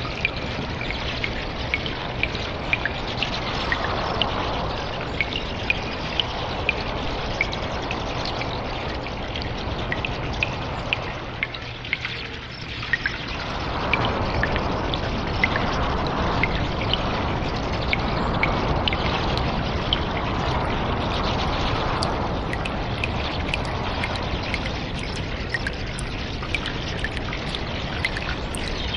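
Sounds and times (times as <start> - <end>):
water drips: 0.0 - 28.9
water rushing: 0.0 - 28.9.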